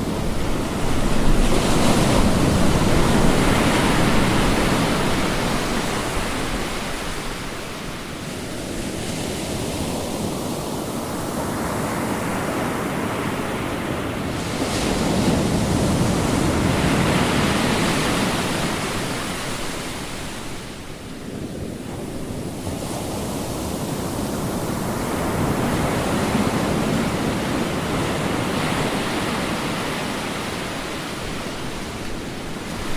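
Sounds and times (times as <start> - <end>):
ocean waves breaking: 0.0 - 32.9.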